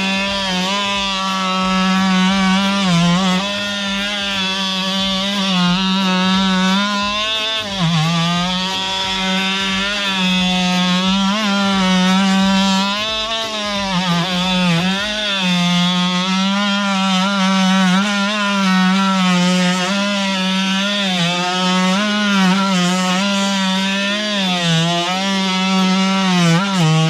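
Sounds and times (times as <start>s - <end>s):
multi-tool cutting wood: 0.0s - 27.0s.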